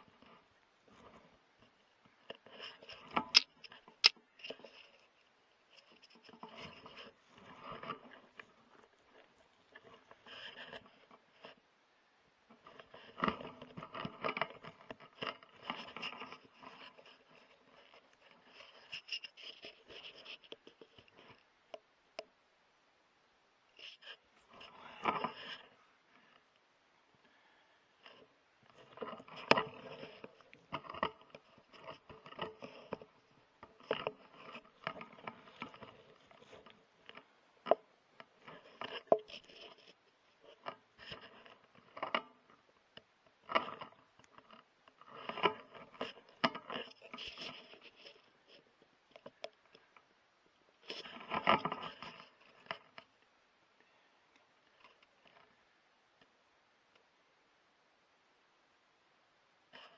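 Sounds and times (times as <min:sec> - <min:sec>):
scraping and rustling: 0:00.0 - 0:11.6, 0:12.5 - 0:21.5, 0:23.7 - 0:26.5, 0:27.2 - 0:42.7, 0:43.4 - 0:53.2.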